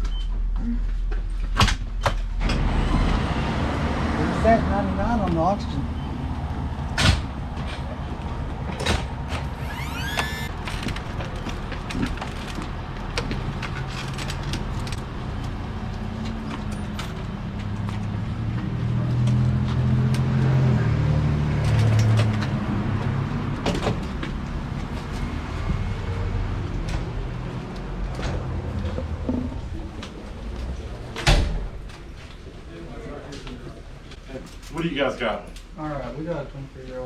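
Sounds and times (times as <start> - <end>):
vehicle engine rumbling: 2.3 - 32.7.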